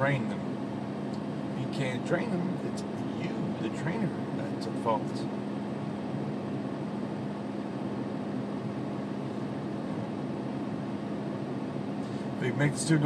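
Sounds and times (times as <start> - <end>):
constant low tone: 0.0 - 13.0
truck cab hum: 0.0 - 13.0.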